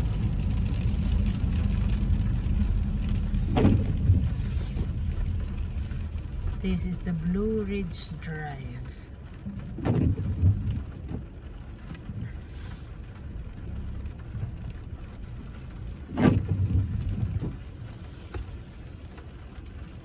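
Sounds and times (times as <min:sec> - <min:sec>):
rain on car: 0:00.0 - 0:20.0
road and engine rumble: 0:00.0 - 0:20.0.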